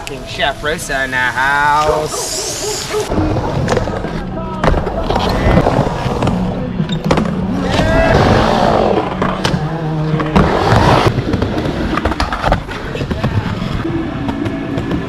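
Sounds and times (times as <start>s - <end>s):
skateboard wheels rolling on wood: 1.8s - 15.0s.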